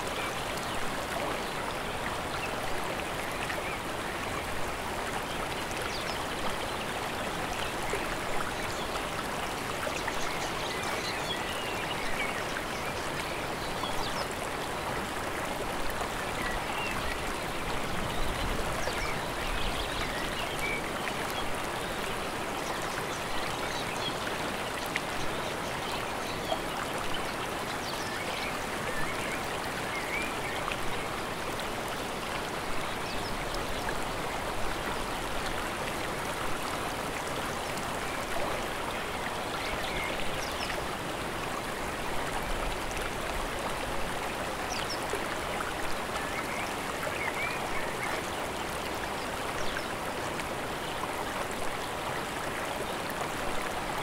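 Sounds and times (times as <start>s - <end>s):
mountain stream rushing water: 0.0s - 54.0s.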